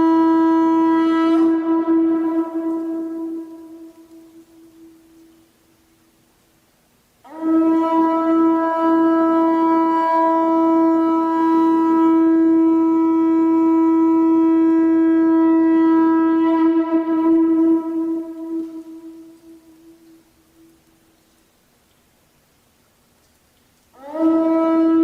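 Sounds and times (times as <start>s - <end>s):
conch shell trumpet note: 0.0s - 5.5s, 7.2s - 21.0s, 23.9s - 25.0s.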